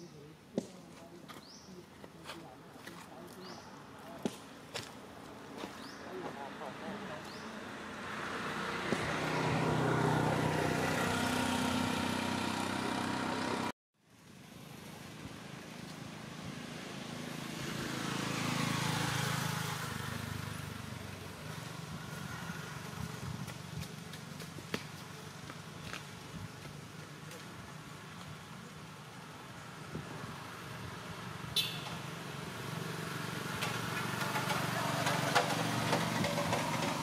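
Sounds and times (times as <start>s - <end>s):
vehicles passing by: 0.0s - 37.0s.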